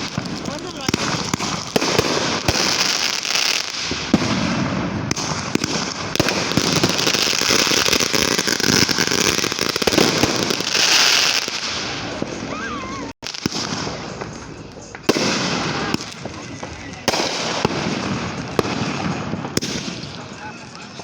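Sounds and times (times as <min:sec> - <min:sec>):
fireworks popping and banging: 0:00.0 - 0:21.0.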